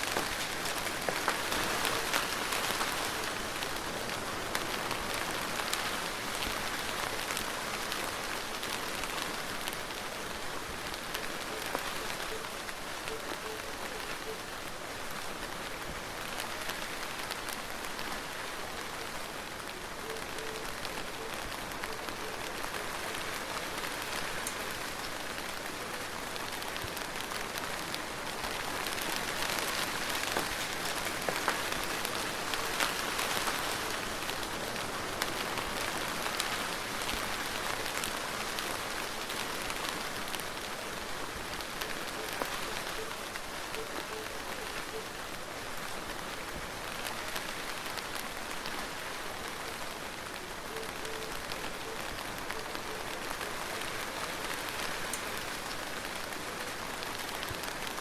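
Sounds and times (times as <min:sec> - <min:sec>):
soft steady rain: 0:00.0 - 0:58.0.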